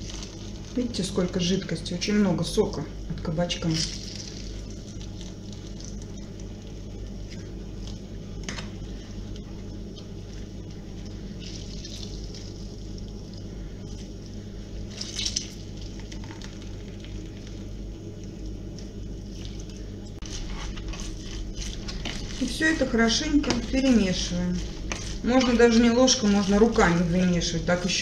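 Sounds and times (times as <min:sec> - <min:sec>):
juice dripping into a bowl: 0:00.0 - 0:01.2, 0:03.6 - 0:27.9
squeezing wet vegetable by hand: 0:00.0 - 0:02.0, 0:03.6 - 0:28.0
steady low hum: 0:00.0 - 0:28.0.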